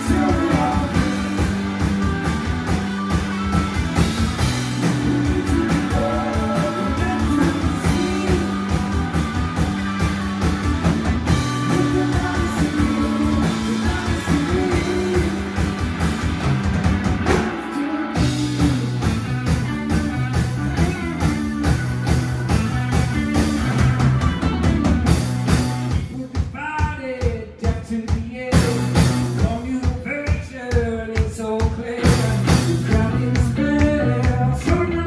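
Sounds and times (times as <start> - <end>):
electric bass: 0.0 - 26.2, 28.6 - 29.6, 32.0 - 35.0
electric guitar: 0.0 - 26.5, 31.8 - 35.0
drum kit: 0.0 - 35.0.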